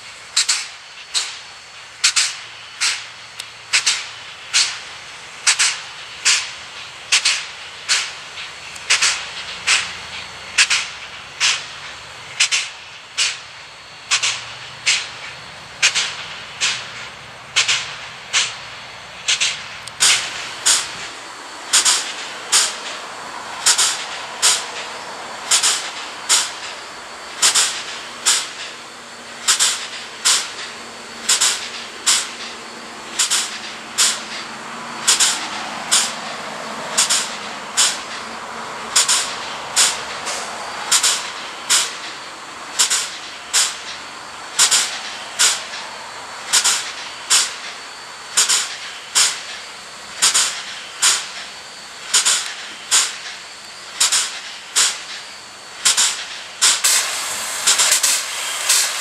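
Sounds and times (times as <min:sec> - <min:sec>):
steam air pump chuffing: 0:00.0 - 0:59.0.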